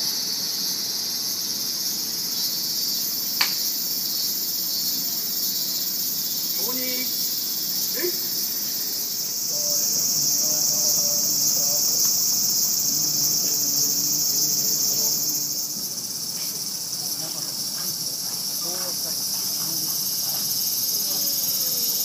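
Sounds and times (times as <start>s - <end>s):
insects shrilling in trees: 0.0s - 22.0s.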